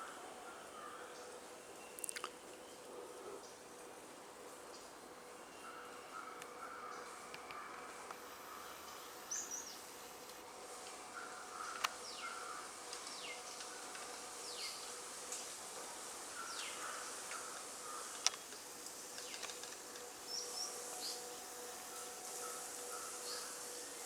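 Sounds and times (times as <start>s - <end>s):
steady high hiss: 3.5s - 24.0s.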